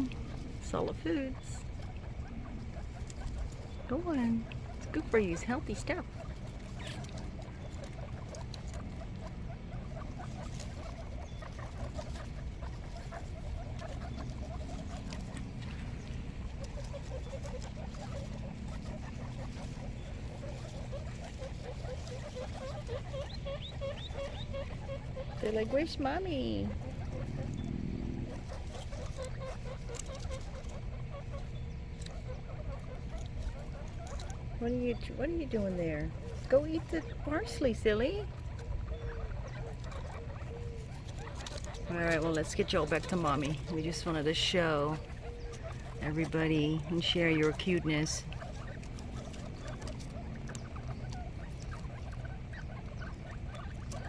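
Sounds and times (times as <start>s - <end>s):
chewing and scrabbling clicks: 0.0s - 0.6s, 1.6s - 37.2s, 38.2s - 54.0s
guinea pigs squeaking: 0.0s - 54.0s.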